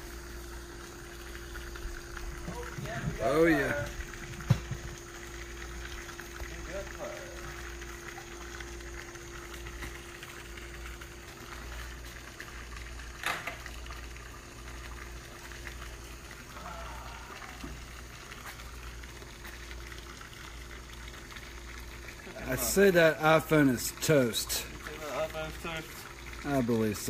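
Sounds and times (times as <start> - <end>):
microwave low hum: 0.0 - 27.0.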